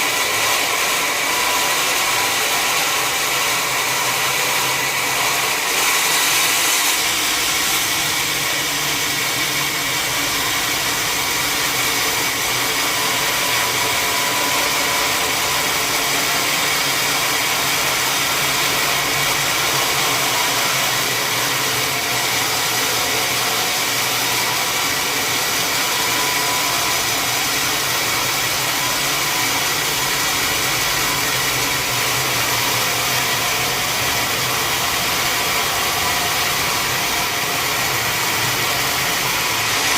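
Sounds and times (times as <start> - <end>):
sawmill machinery with whine: 0.0 - 39.9.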